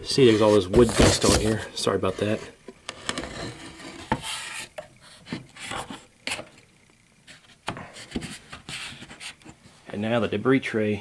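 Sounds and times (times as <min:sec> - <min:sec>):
scraping on wood: 0:00.1 - 0:06.6, 0:07.2 - 0:09.6.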